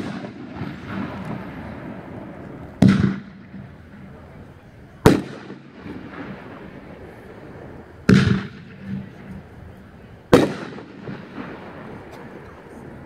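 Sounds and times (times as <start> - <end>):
fireworks bursts: 0.0 - 13.0
fireworks rumble: 0.0 - 13.0.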